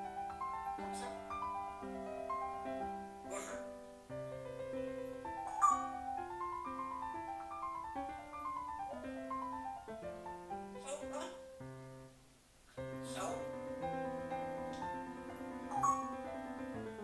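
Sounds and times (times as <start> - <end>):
piano music: 0.0 - 12.2, 12.8 - 17.0.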